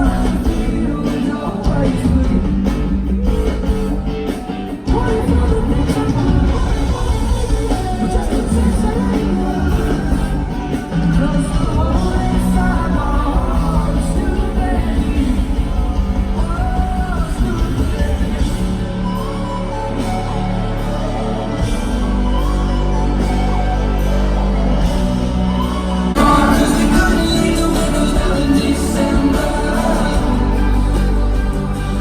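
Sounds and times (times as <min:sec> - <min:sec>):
live pop band with bass: 0:00.0 - 0:32.0
person singing: 0:00.0 - 0:32.0.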